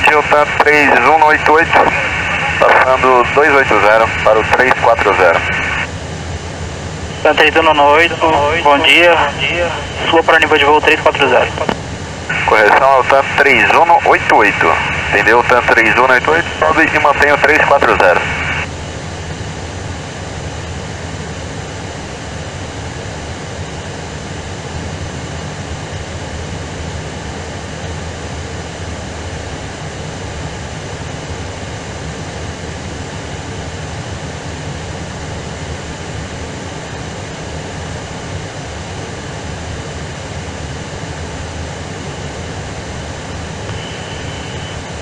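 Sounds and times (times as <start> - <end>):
airplane engine roar in cabin: 0.0 - 45.0.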